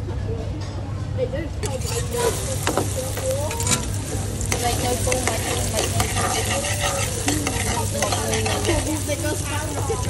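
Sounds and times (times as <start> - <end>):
garlic sizzling in frying pan: 1.6 - 10.0
metal ladle scraping pan: 1.6 - 10.0.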